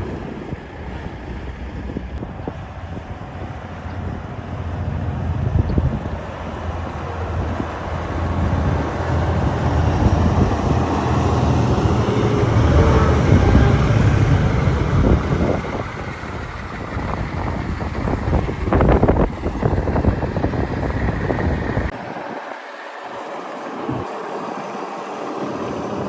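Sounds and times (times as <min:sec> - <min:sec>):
diesel truck engine running: 0:00.0 - 0:22.4.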